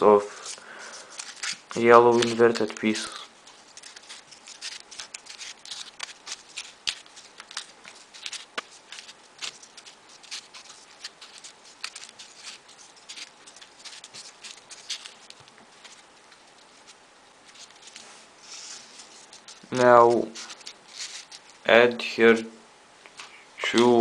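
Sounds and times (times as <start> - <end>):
paper clicks and rustles: 0.3 - 21.6.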